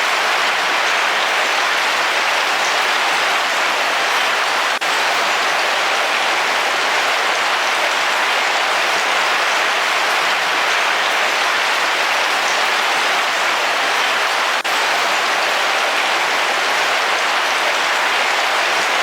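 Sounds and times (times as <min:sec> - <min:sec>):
heavy rain on a car roof: 0:00.0 - 0:19.0.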